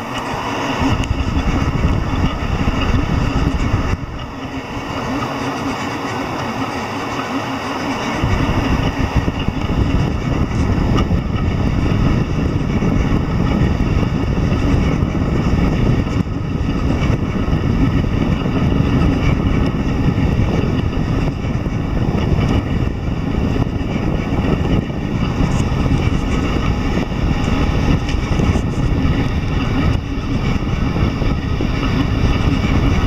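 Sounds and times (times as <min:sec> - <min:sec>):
printer stepper motors buzzing: 0:00.0 - 0:33.0.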